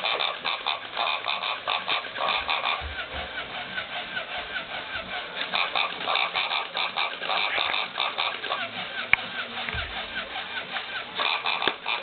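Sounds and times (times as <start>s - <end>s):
toy pig high-pitched pulses: 0.0s - 12.0s.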